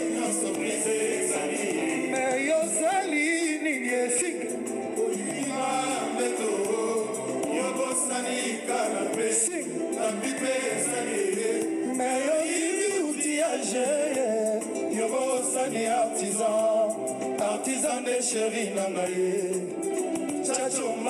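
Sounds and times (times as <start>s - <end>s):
male singers singing together: 0.0s - 19.8s, 20.4s - 21.0s
electric guitars: 0.0s - 21.0s.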